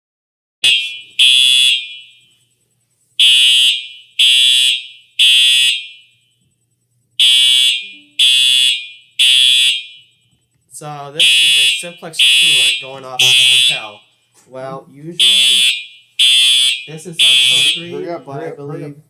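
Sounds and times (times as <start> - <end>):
fire alarm horn blasts: 0.6 - 6.6, 7.2 - 14.3, 15.2 - 18.1.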